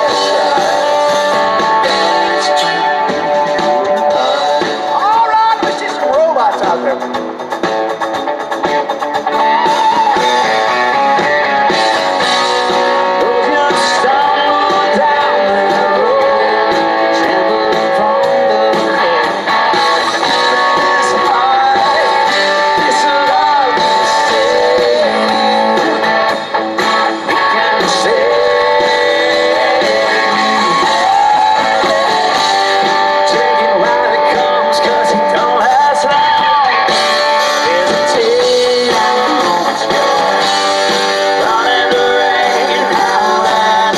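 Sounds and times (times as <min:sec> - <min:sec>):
live band playing country-rock: 0:00.0 - 0:43.9.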